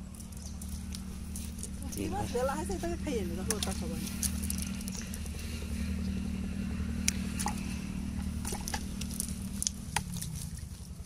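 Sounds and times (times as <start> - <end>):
motor running steadily: 0.0 - 11.0.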